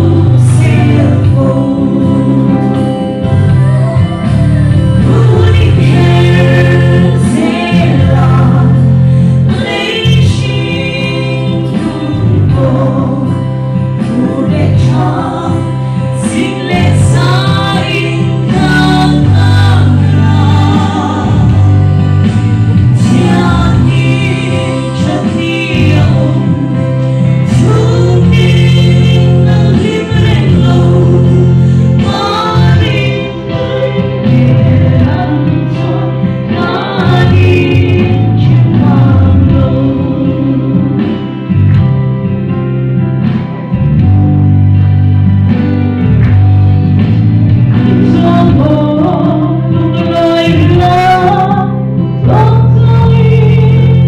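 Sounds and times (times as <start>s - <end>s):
women singing in harmony: 0.0s - 41.5s, 48.0s - 54.0s
instrumental accompaniment: 0.0s - 54.0s.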